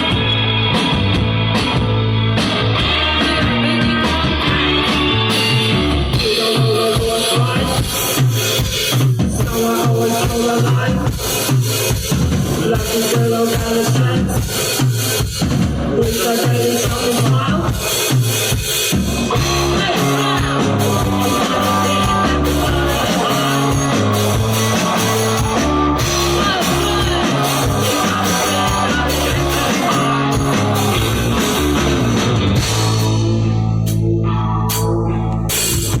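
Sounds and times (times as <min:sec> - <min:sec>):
bass guitar: 0:00.0 - 0:36.0
drum kit: 0:00.0 - 0:36.0
electric guitars: 0:00.0 - 0:36.0.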